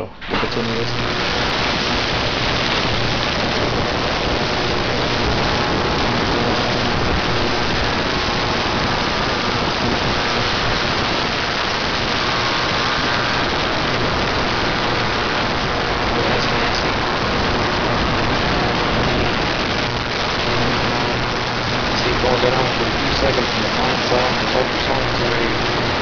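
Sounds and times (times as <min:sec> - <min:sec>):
ultrasonic cleaner hissing: 0:00.2 - 0:26.0.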